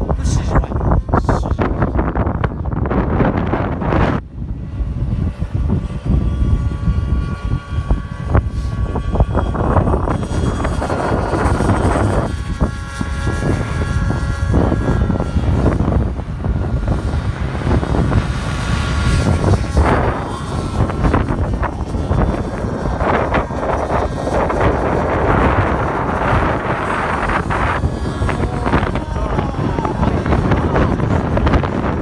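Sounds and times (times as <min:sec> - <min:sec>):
model airplane motor whining: 0:00.0 - 0:32.0
wind buffeting microphone: 0:00.0 - 0:32.0.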